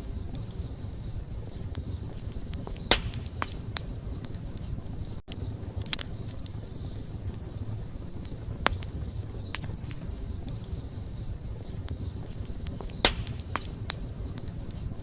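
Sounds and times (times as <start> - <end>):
campfire crackling: 0.0 - 15.0
low rumble of flames: 0.0 - 15.0.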